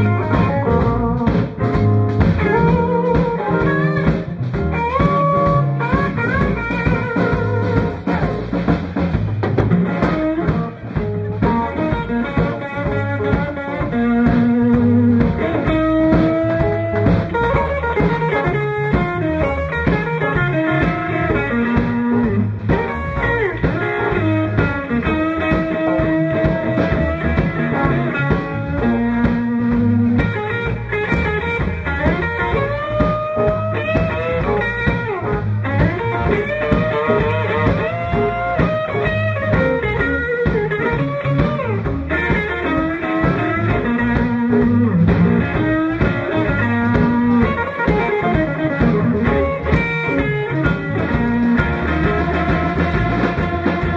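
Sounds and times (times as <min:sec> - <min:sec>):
drum kit: 0:00.0 - 0:53.9
electric bass: 0:00.0 - 0:53.9
electric guitar lead: 0:00.0 - 0:53.9.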